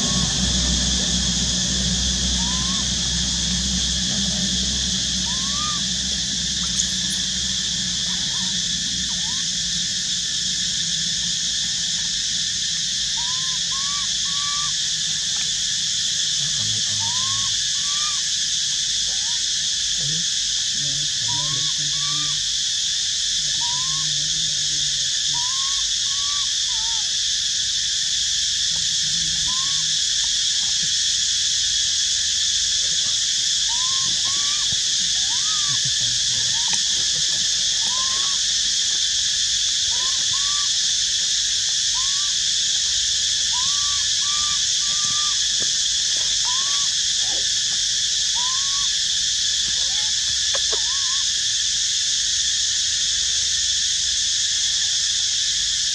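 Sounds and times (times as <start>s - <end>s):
insects droning: 0.0s - 55.9s
rising and falling insect calls: 0.0s - 55.9s.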